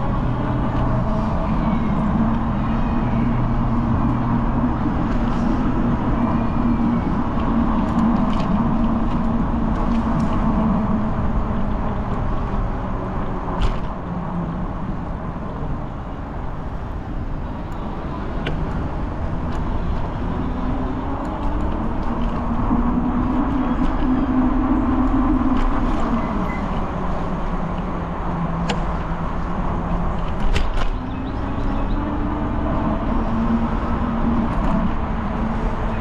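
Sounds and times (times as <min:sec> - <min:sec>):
road vehicle rumble: 0:00.0 - 0:36.0.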